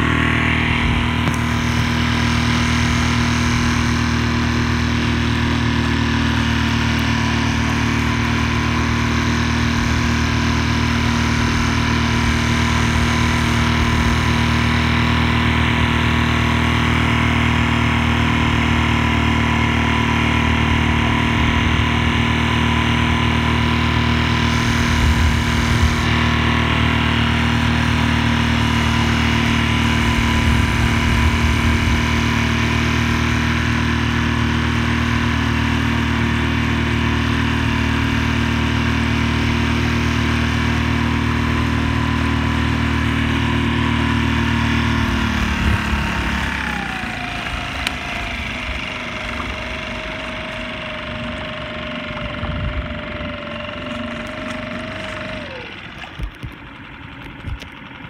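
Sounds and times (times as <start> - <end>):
small boat motor running: 0.0 - 58.0.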